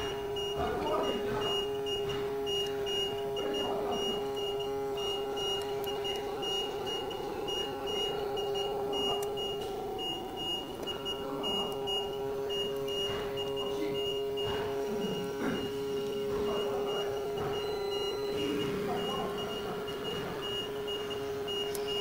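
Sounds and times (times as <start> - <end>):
electrical machine hum: 0.0 - 22.0
thin high whine: 0.0 - 22.0.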